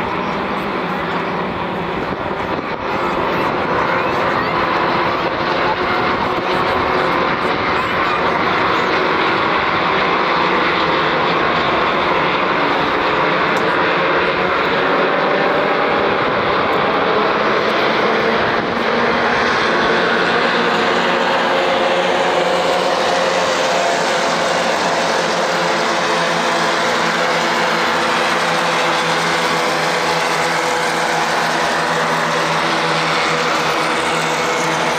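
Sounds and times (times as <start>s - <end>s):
racing car engine drone: 0.0s - 34.9s.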